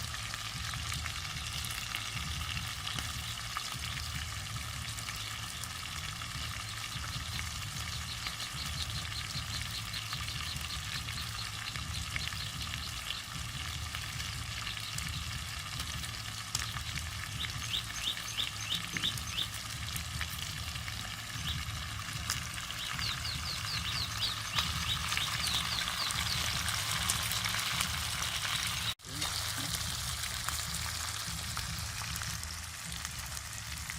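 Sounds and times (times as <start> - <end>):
ribs sizzling in hot oil: 0.0 - 33.9.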